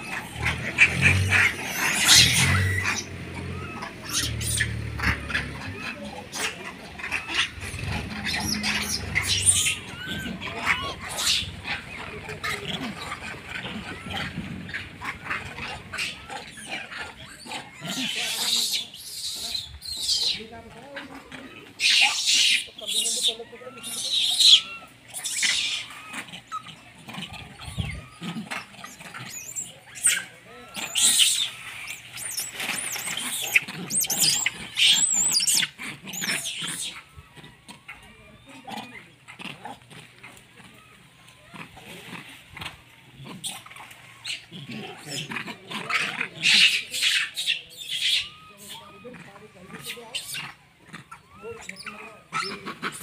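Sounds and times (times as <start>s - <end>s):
monkeys calling: 0.0s - 53.0s.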